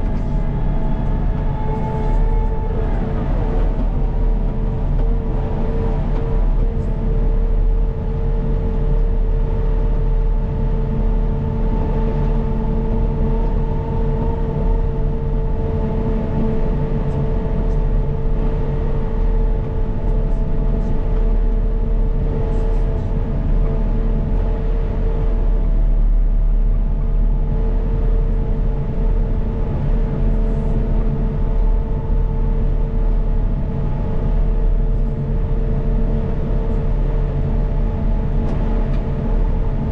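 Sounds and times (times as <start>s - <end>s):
diesel engine drone: 0.0s - 39.9s
high whine: 0.0s - 39.9s.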